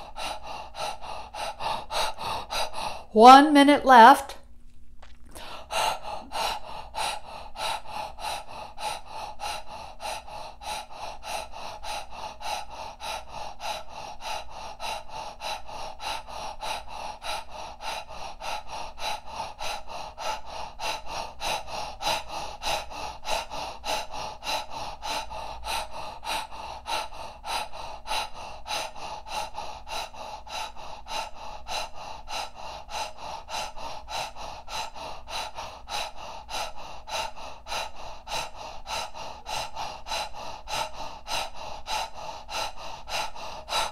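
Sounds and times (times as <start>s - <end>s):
woman breathing rapidly: 0.0s - 4.1s, 5.0s - 43.9s.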